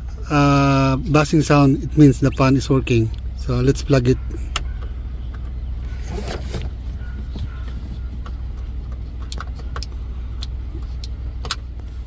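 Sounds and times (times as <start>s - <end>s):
car air conditioning hum: 0.0s - 12.0s.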